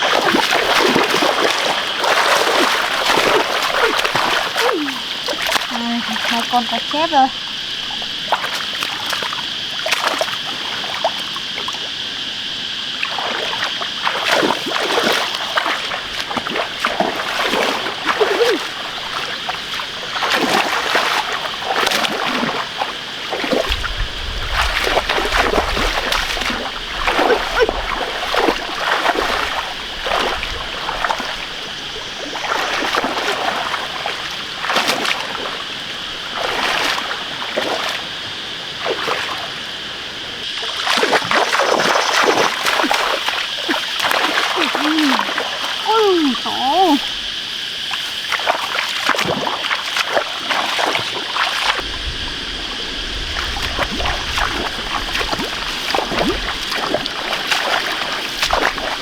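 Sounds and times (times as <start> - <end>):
splashing in shallow water: 0.0 - 59.0.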